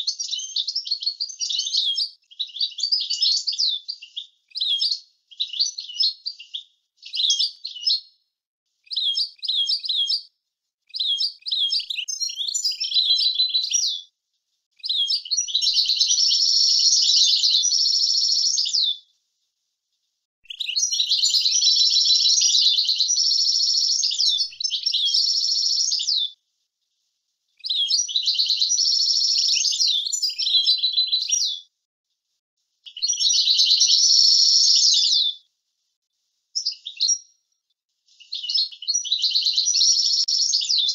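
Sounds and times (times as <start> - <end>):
finch twittering and trilling song: 0.0 - 8.1, 8.8 - 10.3, 10.9 - 14.1, 14.8 - 19.0, 20.4 - 26.4, 27.6 - 31.7, 32.9 - 35.4, 36.6 - 37.4, 38.1 - 40.9.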